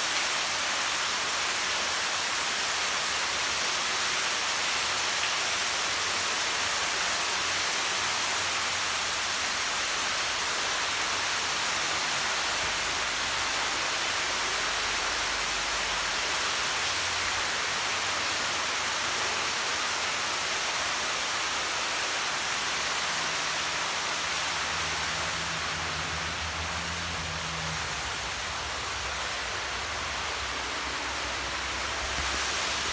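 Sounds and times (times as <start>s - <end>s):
water splashing and rushing: 0.0s - 32.9s.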